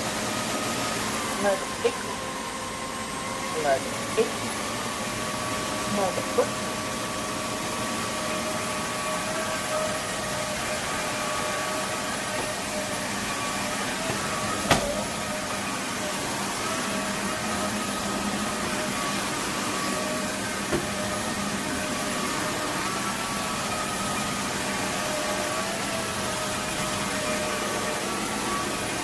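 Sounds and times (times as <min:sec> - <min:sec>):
vacuum motor hum with whine: 0:00.0 - 0:29.0.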